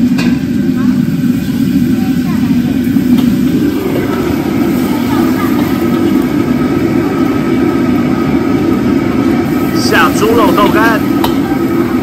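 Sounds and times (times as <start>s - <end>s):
gas burner and extraction hood rumble: 0.0s - 12.0s.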